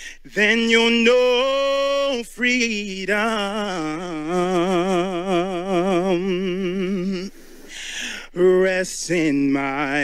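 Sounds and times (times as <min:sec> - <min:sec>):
man singing with vibrato: 0:00.0 - 0:10.0.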